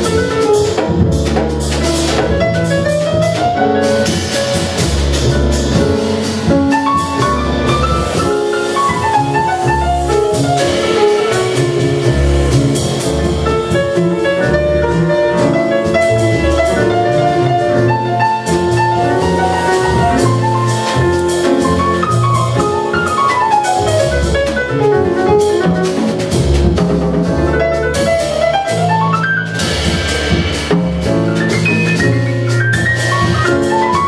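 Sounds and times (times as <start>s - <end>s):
double bass: 0.0s - 34.0s
drum cymbals: 0.0s - 34.0s
piano playing fast runs: 0.0s - 34.0s.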